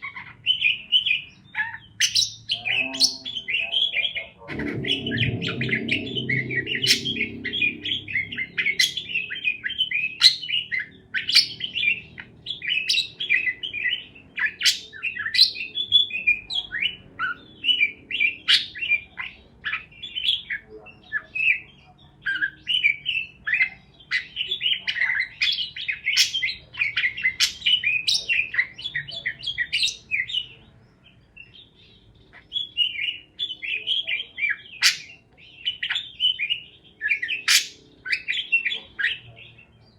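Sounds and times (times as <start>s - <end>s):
parakeets chirping: 0.0s - 39.9s.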